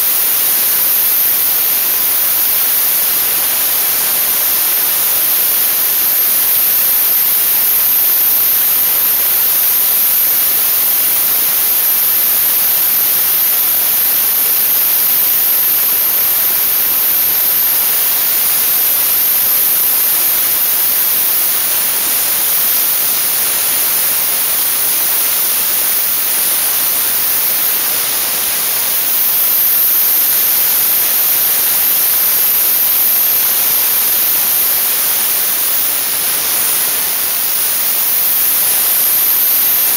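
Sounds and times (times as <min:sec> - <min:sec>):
nozzle hissing loudly: 0:00.0 - 0:39.9.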